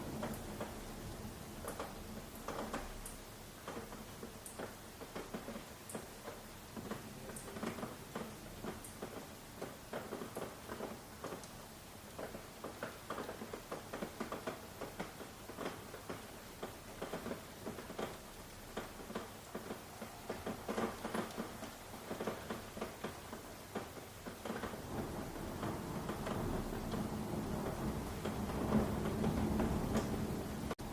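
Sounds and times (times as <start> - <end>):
rain pattering on hard surface: 0.0 - 30.9.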